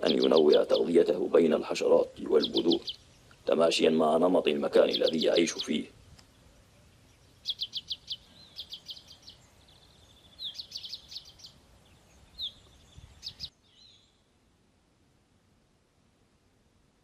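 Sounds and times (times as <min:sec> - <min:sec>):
songbird singing: 0:00.0 - 0:14.4.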